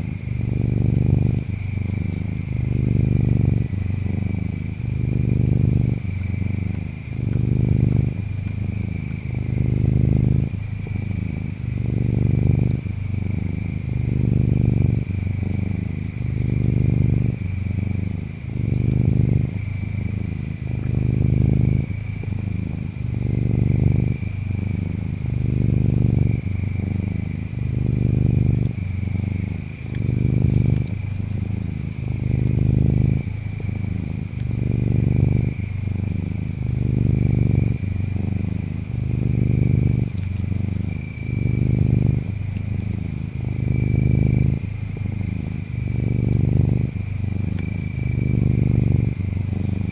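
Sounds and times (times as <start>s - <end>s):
cat purring: 0.0s - 49.9s
insects chirping: 0.0s - 49.9s.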